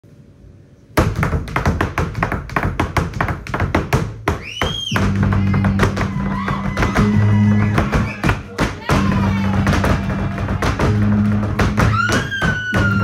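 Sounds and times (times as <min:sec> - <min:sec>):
heeled shoes stamping on wood: 0:01.0 - 0:13.0
percussion: 0:01.0 - 0:13.0.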